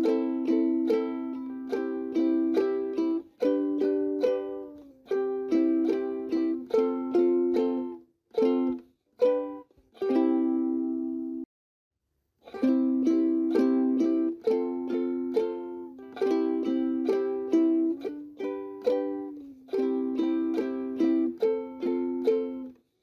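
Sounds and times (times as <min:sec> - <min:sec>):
ukulele strumming chords: 0:00.0 - 0:11.4, 0:12.4 - 0:22.8.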